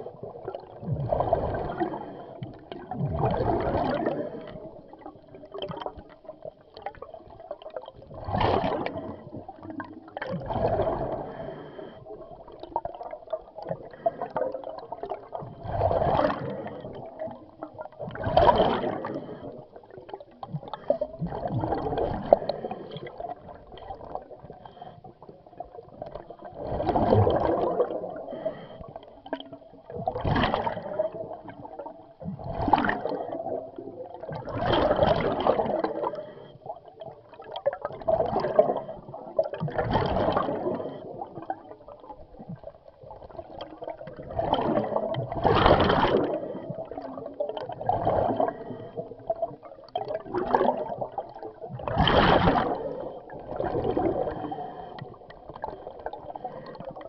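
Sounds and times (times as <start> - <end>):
exhaled bubbles gurgling underwater: 0.0 - 57.0.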